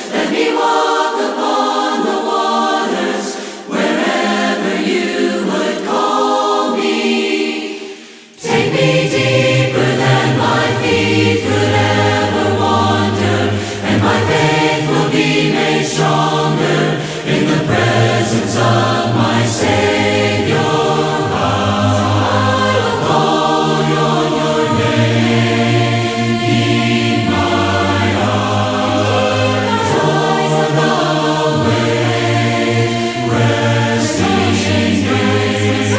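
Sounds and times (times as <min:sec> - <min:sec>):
choir singing worship song: 0:00.0 - 0:35.9.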